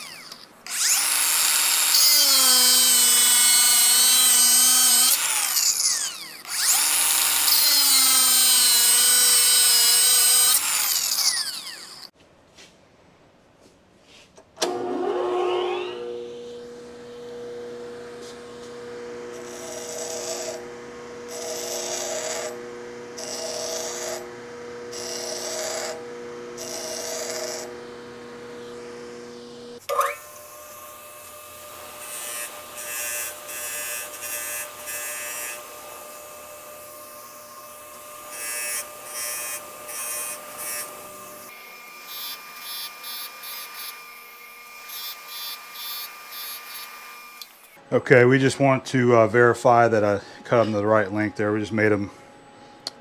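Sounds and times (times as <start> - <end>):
grinder motor hum: 0.0 - 12.1, 14.6 - 50.0.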